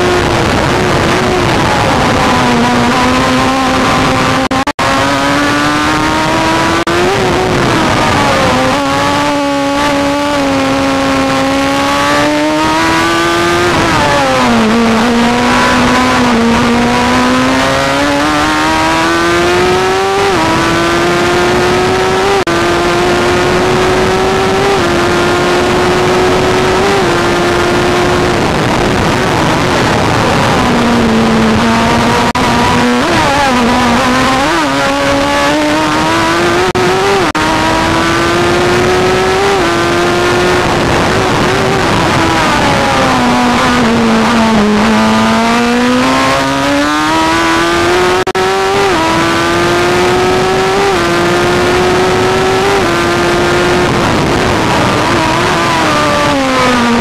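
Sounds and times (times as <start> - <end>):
racing car engine revving: 0.0 - 57.0
wind noise: 0.0 - 57.0.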